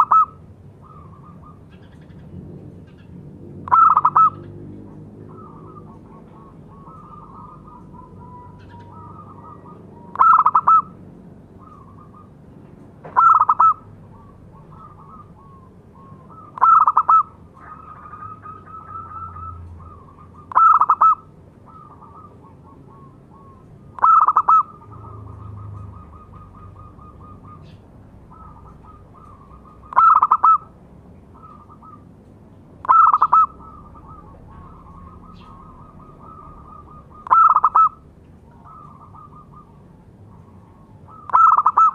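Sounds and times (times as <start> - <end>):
dove cooing: 0.0 - 32.2, 32.8 - 41.9.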